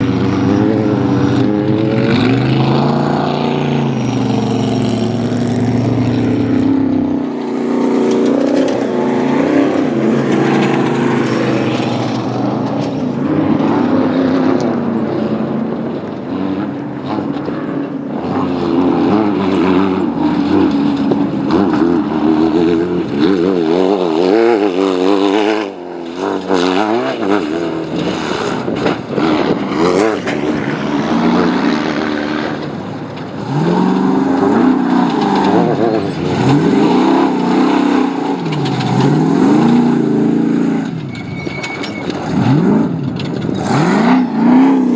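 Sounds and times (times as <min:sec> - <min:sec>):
low engine drone: 0:00.0 - 0:44.9
race engines revving high: 0:00.0 - 0:44.9.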